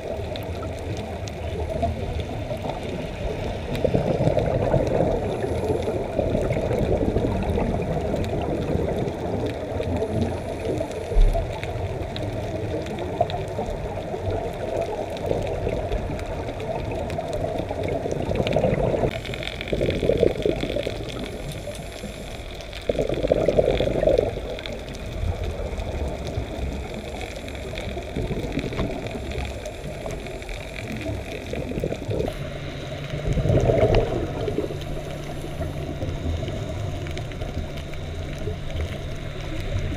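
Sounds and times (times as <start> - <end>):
regulator bubbles surging: 0.0 - 39.9
underwater low rushing: 0.0 - 39.9.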